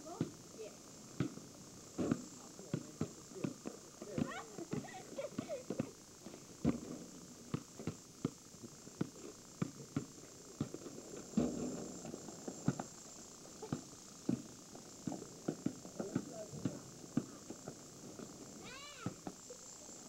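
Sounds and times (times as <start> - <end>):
basketball bouncing on pavement: 0.0 - 0.4, 1.2 - 1.4, 2.0 - 12.9, 13.6 - 19.5.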